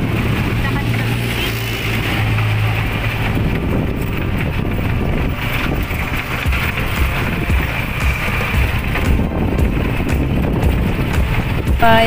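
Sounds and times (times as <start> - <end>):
motor tricycle engine running: 0.0 - 12.0
wind on microphone: 0.0 - 12.0.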